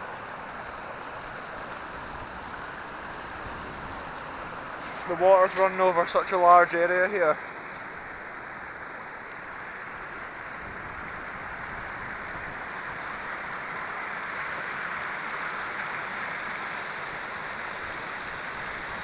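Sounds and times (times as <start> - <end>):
waterfall rushing over rock: 0.0 - 19.0.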